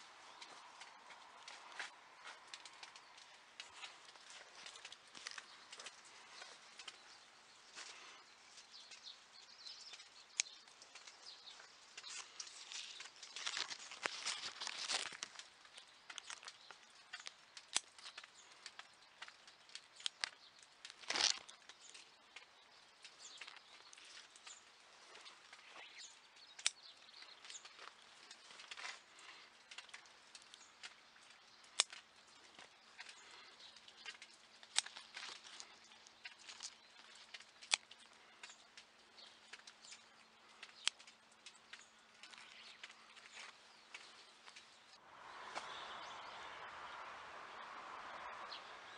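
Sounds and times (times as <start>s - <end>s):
leaves rustling: 0.0s - 48.9s.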